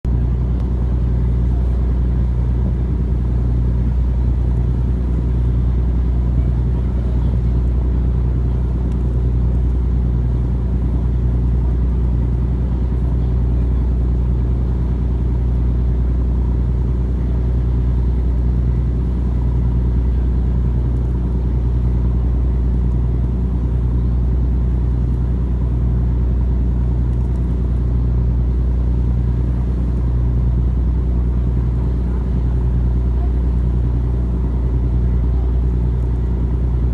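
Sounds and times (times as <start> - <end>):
diesel engine drone: 0.0 - 36.9.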